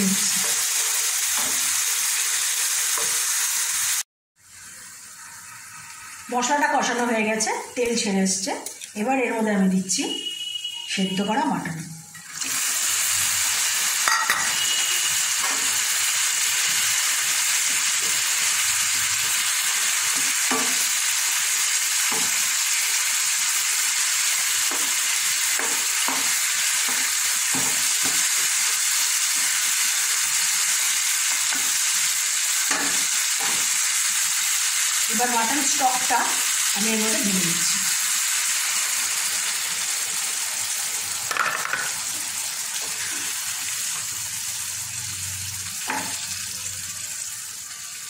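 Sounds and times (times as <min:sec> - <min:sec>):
meat sizzling in hot oil: 0:00.0 - 0:09.1, 0:12.2 - 0:48.0.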